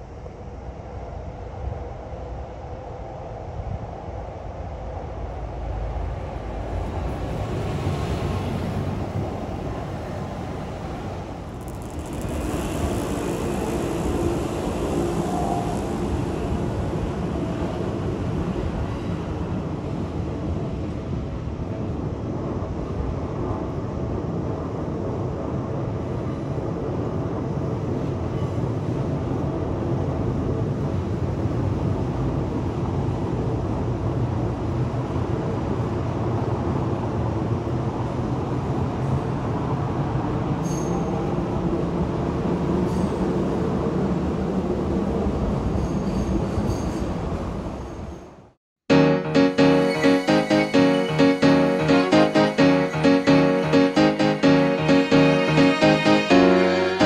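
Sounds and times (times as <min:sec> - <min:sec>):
electric train running past: 0:00.0 - 0:48.0, 0:48.9 - 0:57.0.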